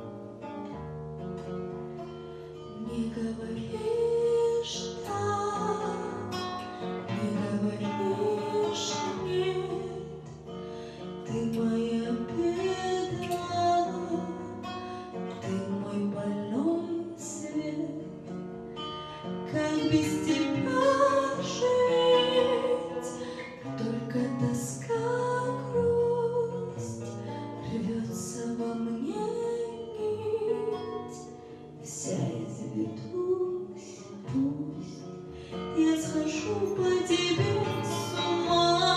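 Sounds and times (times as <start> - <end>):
guitar: 0.0 - 38.9
woman singing into microphone: 2.8 - 10.3, 11.2 - 18.1, 19.4 - 31.2, 31.8 - 38.9.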